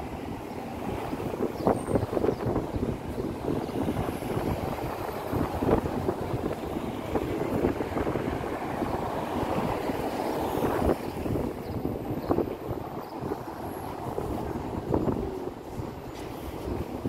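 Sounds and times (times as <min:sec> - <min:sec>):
cars driving through intersection: 0:00.0 - 0:17.0
wind rumbling on microphone: 0:00.0 - 0:17.0.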